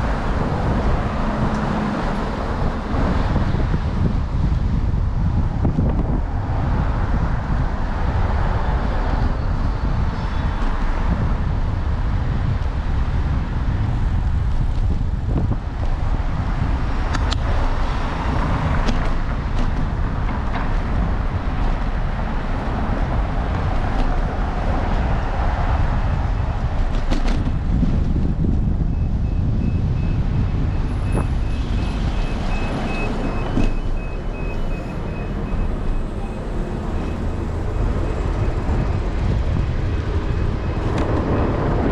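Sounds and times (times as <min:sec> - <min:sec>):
passing cars and trucks: 0:00.0 - 0:41.9
wind on microphone: 0:00.0 - 0:41.9.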